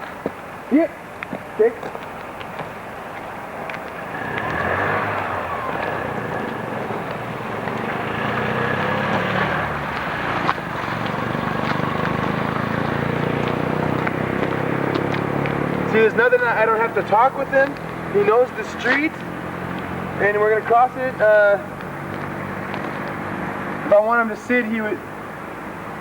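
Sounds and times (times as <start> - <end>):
vehicle engines passing: 0.0 - 26.0.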